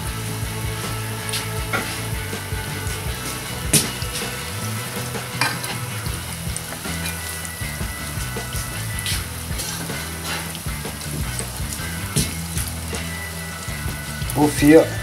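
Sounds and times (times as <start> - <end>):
patties sizzling in hot oil: 0.0 - 15.0.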